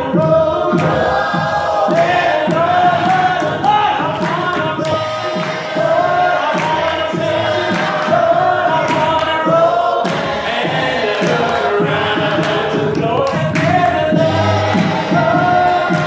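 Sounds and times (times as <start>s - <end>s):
congregation singing gospel song: 0.0s - 16.0s
steady beat: 0.0s - 16.0s.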